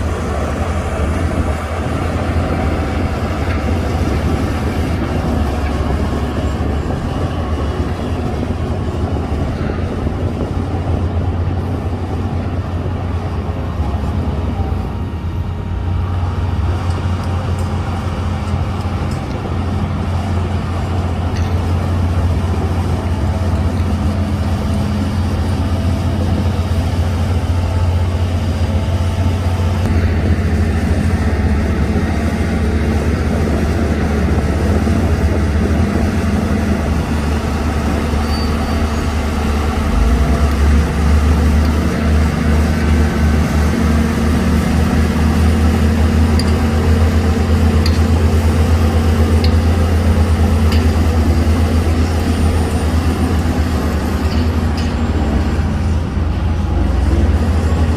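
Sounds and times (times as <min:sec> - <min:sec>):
heavy diesel engine droning: 0:00.0 - 0:57.9.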